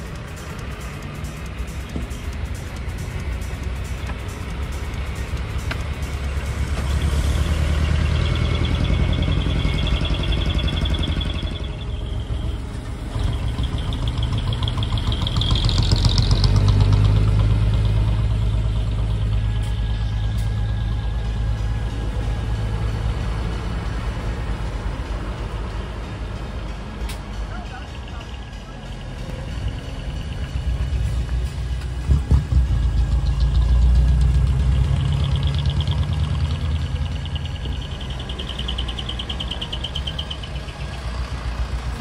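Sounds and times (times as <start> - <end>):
diesel truck engines passing: 0.0 - 42.0
truck high whine: 0.0 - 42.0.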